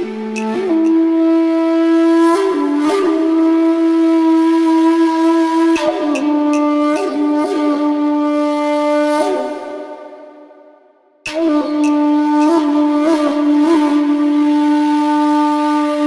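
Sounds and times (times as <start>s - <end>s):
wind instrument playing long notes: 0.0s - 10.6s, 11.3s - 16.0s.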